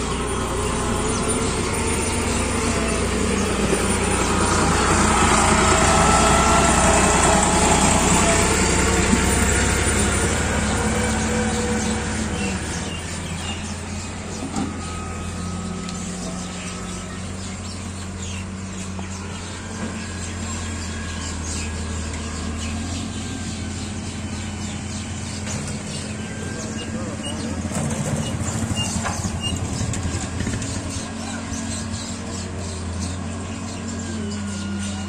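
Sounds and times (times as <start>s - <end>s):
diesel tractor engines running: 0.0s - 35.0s.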